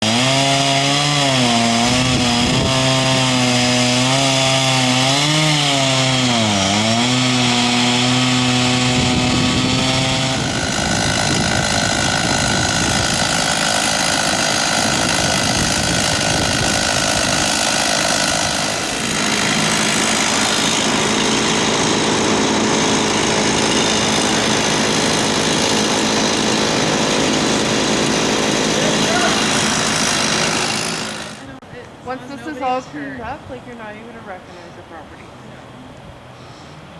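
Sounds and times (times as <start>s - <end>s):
two-stroke chainsaw running: 0.0s - 31.6s.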